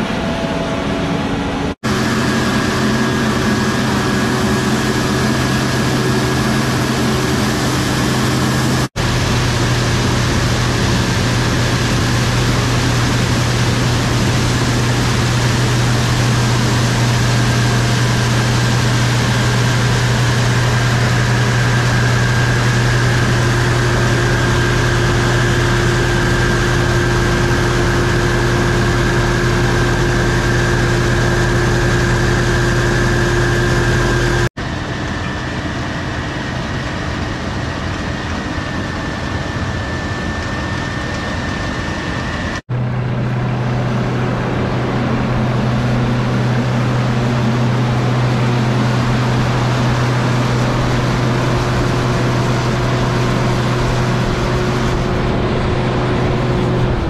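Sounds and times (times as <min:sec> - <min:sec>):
combine harvester droning: 0:00.0 - 0:57.0
steady high whine: 0:00.0 - 0:57.0.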